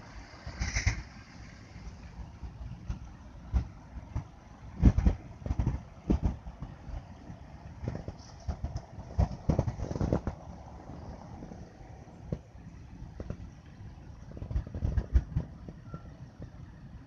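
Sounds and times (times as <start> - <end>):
freeway traffic hum: 0.0 - 17.0
low thumps and rumbles: 0.4 - 17.0.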